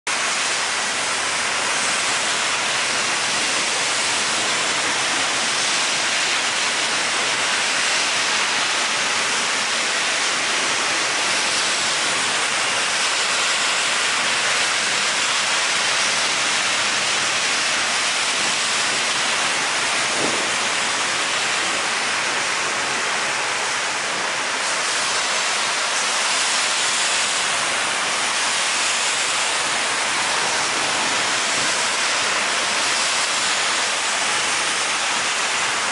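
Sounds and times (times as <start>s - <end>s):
rain falling steadily: 0.1s - 35.9s.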